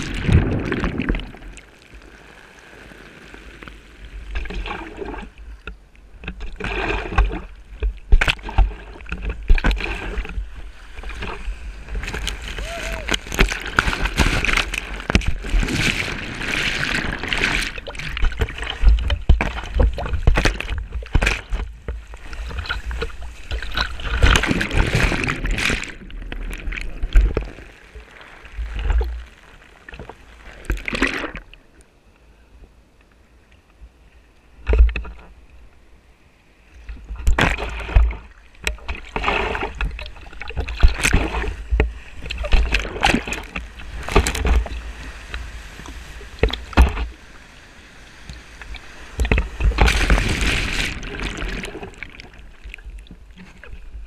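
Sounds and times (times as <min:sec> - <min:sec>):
sea water splashing and rushing: 0:00.0 - 0:31.6, 0:36.8 - 0:54.0.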